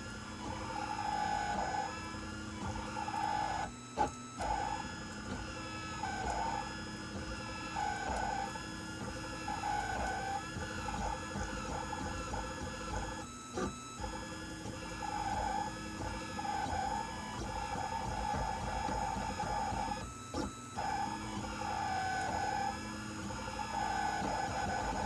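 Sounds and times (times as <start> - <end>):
printer motors whining: 0.0 - 25.0
steady mechanical hum: 0.0 - 25.0.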